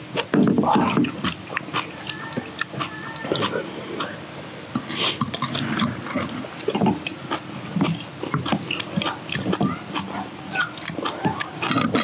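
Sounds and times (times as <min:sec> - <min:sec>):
people chewing and crunching: 0:00.0 - 0:12.0.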